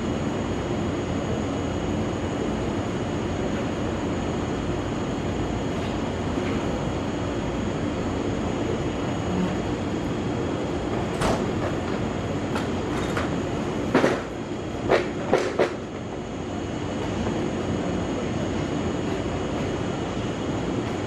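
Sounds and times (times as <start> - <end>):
train air conditioner hum and hiss: 0.0 - 21.0.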